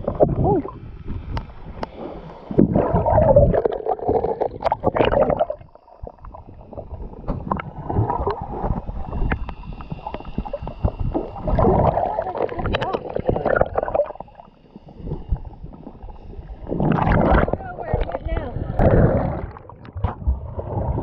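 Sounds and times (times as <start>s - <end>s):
water rushing underwater: 0.0s - 21.0s.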